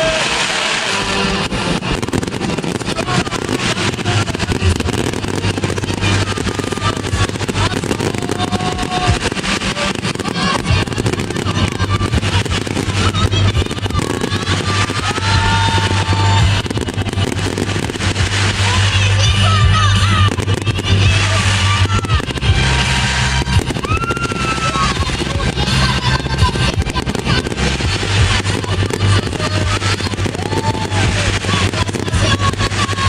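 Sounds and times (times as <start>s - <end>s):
fireworks bursting and crackling: 0.0s - 33.0s
loud music: 0.0s - 33.0s.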